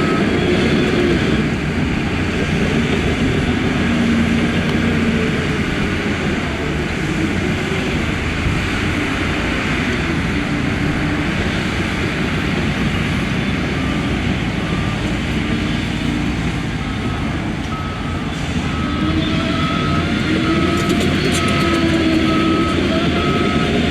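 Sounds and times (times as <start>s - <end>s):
bulldozer diesel engine rumbling: 0.0s - 23.9s.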